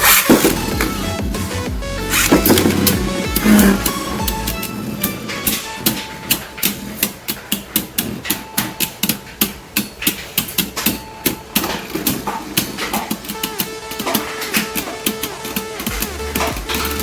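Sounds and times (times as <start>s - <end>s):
spinning tops clashing: 0.0s - 17.0s.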